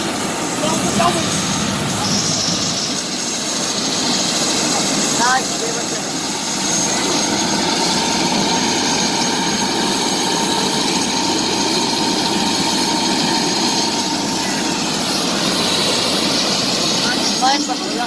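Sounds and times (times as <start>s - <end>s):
helicopter turbine engine running: 0.0s - 18.0s.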